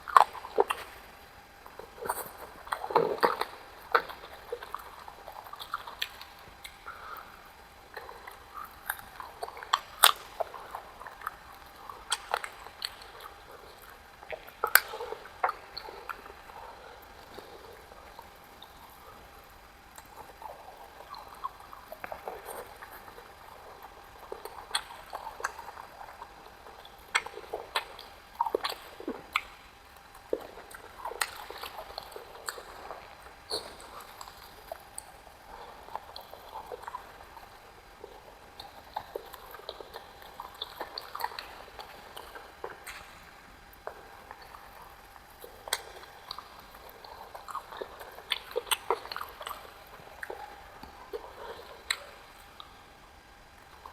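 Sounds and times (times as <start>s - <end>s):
person chewing: 0.0s - 53.9s.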